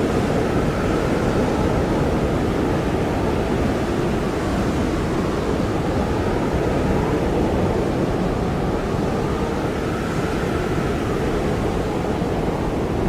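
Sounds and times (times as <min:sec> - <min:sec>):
faint high wind whistle: 0:00.0 - 0:13.0.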